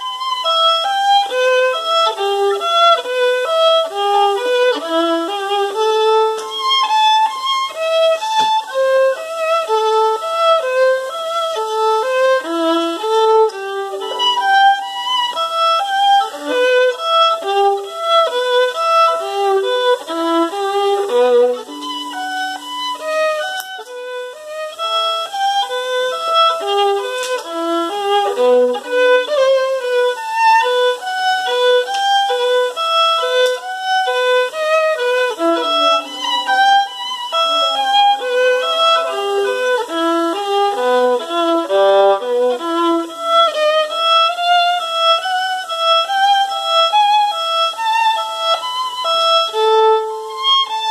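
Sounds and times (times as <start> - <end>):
solo violin melody: 0.0 - 50.9.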